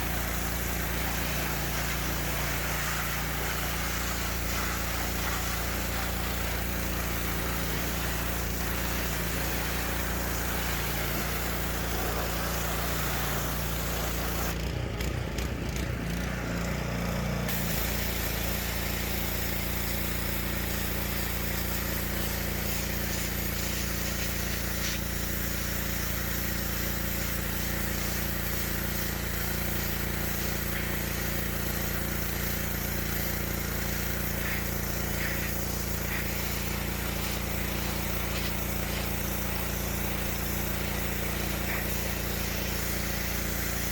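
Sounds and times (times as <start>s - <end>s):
pressure washer hiss: 0.0s - 14.6s, 17.3s - 43.9s
pressure washer engine running: 0.0s - 43.9s.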